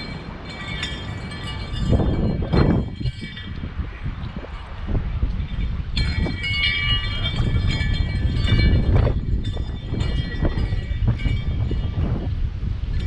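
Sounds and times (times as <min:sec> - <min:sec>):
high steady ringing tones: 0:00.0 - 0:13.0
wind buffeting microphone: 0:00.0 - 0:13.0.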